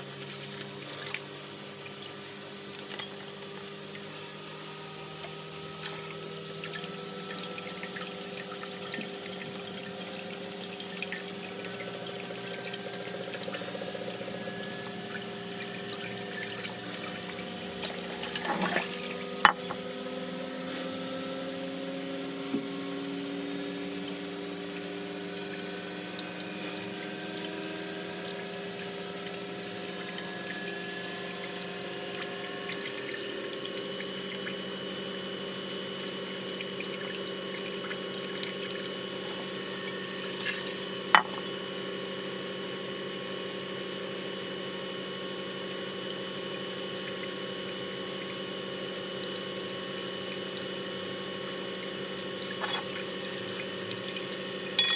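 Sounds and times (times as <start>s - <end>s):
tap water running: 0.2s - 4.2s, 5.2s - 41.6s, 45.8s - 54.9s.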